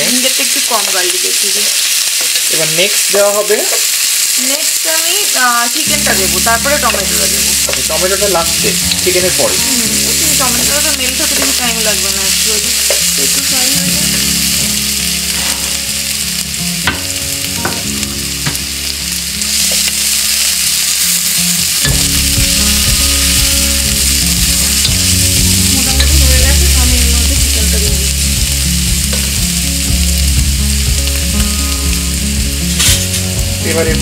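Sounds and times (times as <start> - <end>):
onions sizzling in oil: 0.0 - 34.0.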